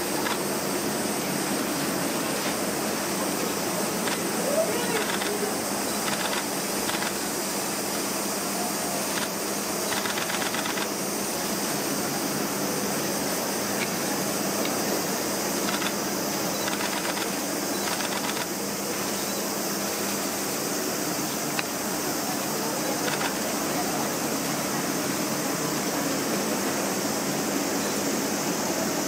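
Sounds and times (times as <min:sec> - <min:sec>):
ventilation hiss and hum: 0:00.0 - 0:29.0.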